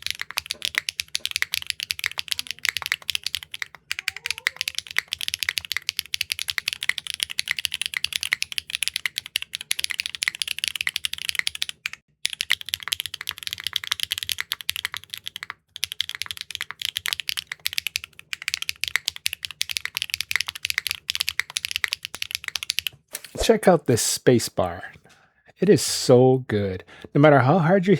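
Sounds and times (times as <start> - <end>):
fast typing on mechanical keyboard: 0.0 - 23.0.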